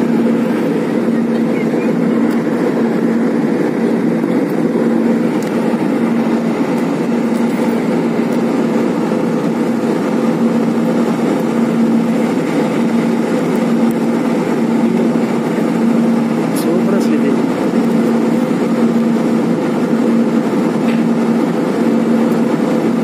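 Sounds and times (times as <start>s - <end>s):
airliner cabin engine noise: 0.0s - 23.0s.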